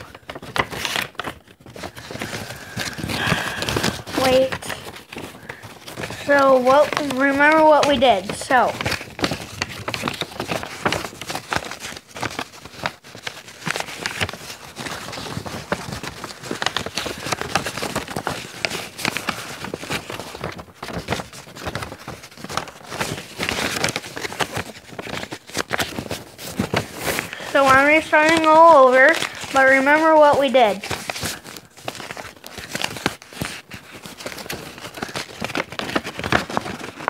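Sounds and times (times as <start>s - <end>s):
paper rustling and crinkling: 0.0s - 37.0s.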